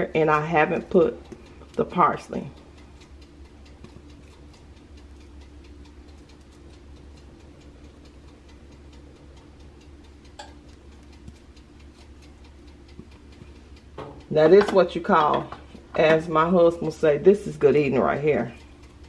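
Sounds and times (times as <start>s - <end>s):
low hum: 0.0s - 19.0s
wooden spoon ticking and scraping: 0.0s - 19.0s.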